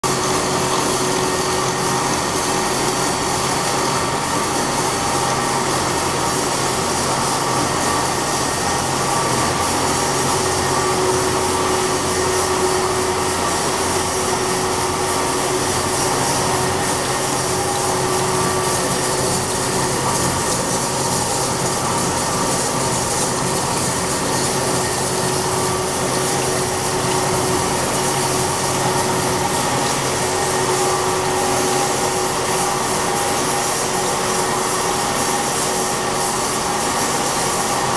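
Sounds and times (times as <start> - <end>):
welding machine humming: 0.1 - 37.9.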